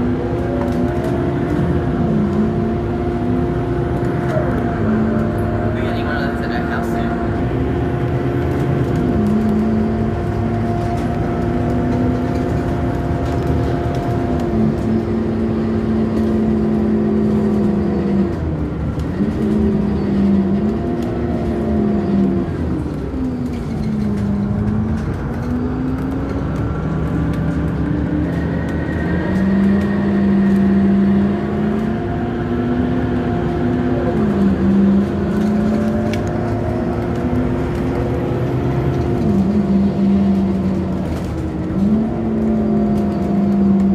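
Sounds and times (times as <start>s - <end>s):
bus engine and gearbox running: 0.0s - 43.9s.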